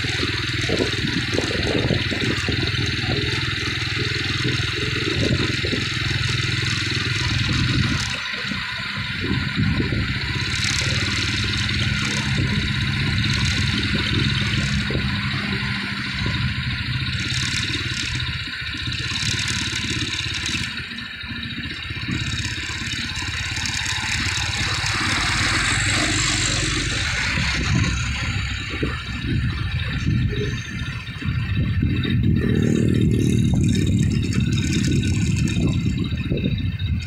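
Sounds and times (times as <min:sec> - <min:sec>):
road and wind hiss: 0:00.0 - 0:37.0
truck engine droning: 0:00.0 - 0:37.0.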